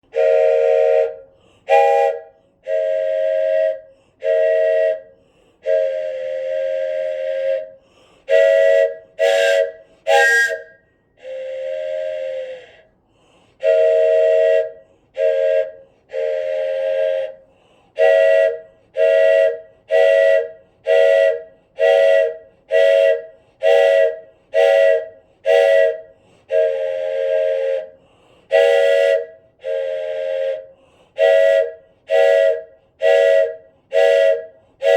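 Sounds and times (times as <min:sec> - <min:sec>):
wooden train whistle blasts: 0:00.0 - 0:13.0, 0:13.6 - 0:34.9.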